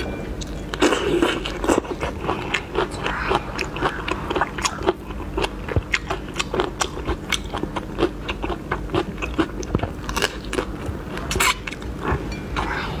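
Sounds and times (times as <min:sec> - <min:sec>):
chewing: 0:00.4 - 0:12.8.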